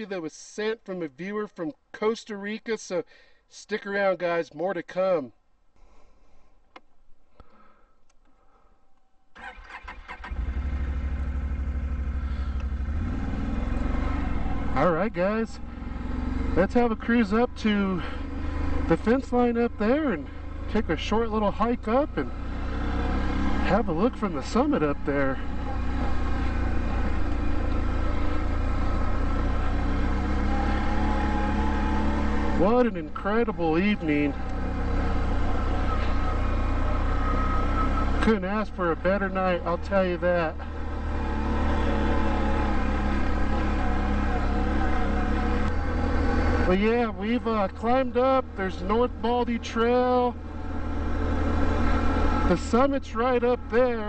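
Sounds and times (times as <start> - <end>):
atv engine idling: 10.3 - 54.0.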